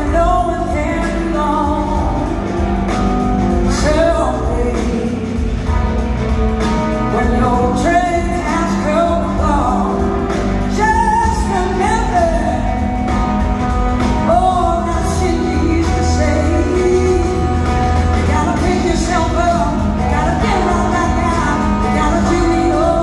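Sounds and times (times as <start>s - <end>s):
woman singing: 0.0s - 6.0s, 6.6s - 23.0s
distant live band playing: 0.0s - 23.0s.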